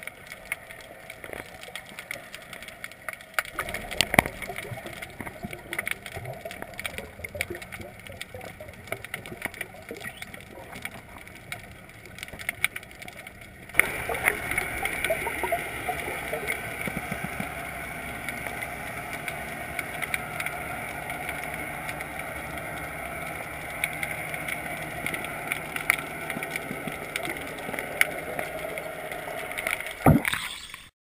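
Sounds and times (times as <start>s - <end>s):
small underwater clicks and crackles: 0.0s - 30.9s
underwater water noise: 0.0s - 30.9s.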